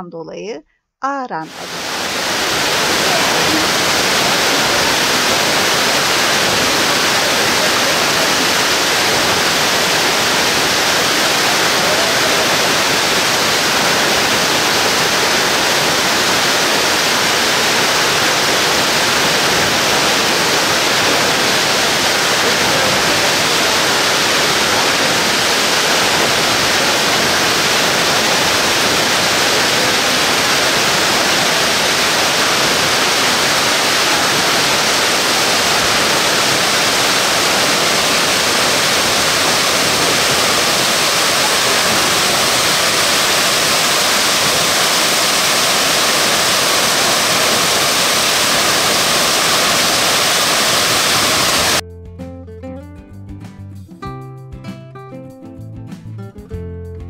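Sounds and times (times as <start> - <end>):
waterfall rushing: 1.5 - 51.8.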